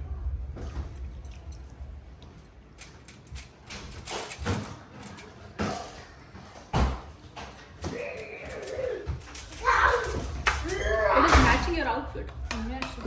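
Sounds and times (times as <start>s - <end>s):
knocks and clattering handling: 0.6s - 13.0s.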